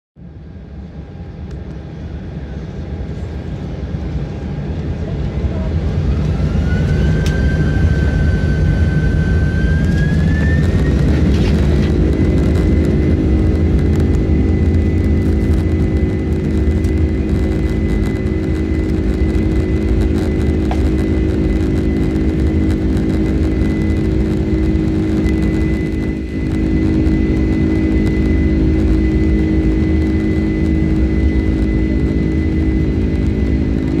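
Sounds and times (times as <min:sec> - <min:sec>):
jet engines spooling up: 0:00.3 - 0:34.0.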